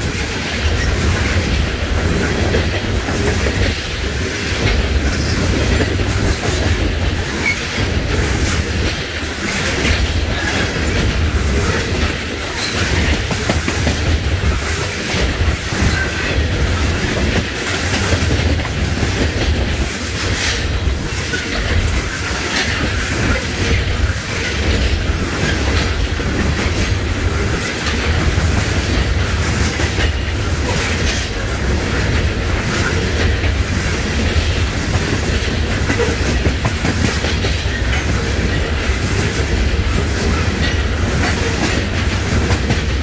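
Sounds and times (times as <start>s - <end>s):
train rumbling past: 0.0s - 43.0s
wheels clacking over rail joints: 0.0s - 43.0s.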